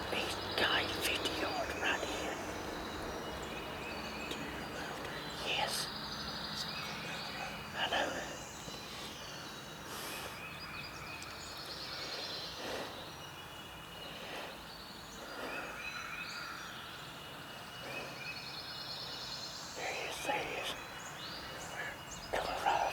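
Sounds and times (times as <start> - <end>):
songbirds singing: 0.0 - 22.9.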